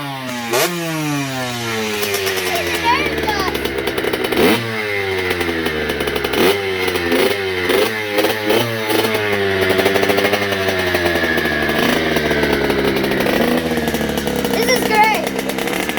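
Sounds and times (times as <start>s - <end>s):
two-stroke engine revving: 0.0s - 15.9s.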